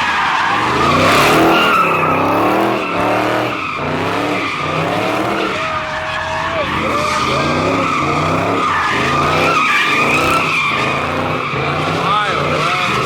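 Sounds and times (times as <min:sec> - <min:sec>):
car engine revving: 0:00.0 - 0:13.0
tyre squeal: 0:00.0 - 0:13.0.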